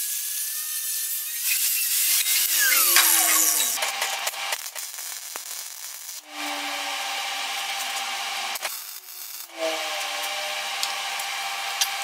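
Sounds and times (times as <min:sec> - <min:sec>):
welder arc crackle: 0:00.0 - 0:12.0.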